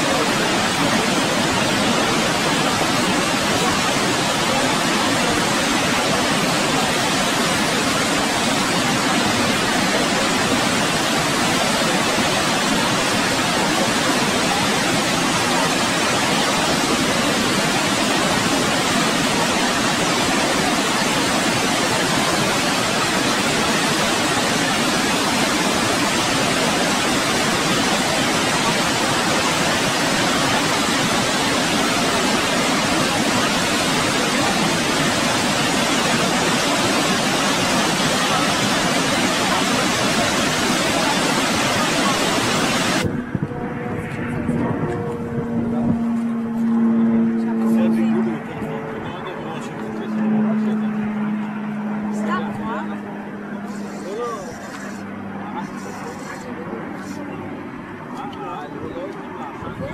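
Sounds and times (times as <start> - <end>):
waterfall rushing: 0.0 - 43.2, 48.3 - 58.1.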